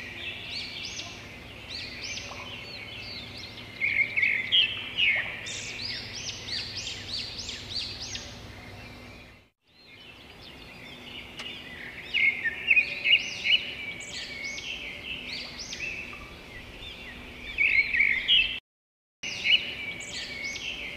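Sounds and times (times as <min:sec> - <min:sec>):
songbirds chirping: 0:00.0 - 0:18.6, 0:19.2 - 0:20.9.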